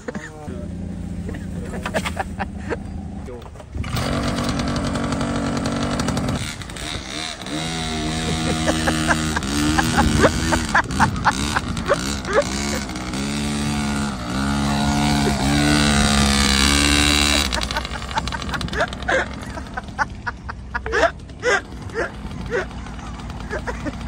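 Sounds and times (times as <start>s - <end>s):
mini motorcycle engine revving: 0.5s - 24.0s.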